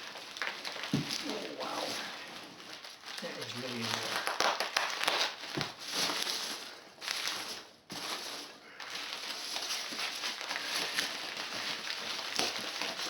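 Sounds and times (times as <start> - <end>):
bubble wrap and packing rustling: 0.0 - 13.0.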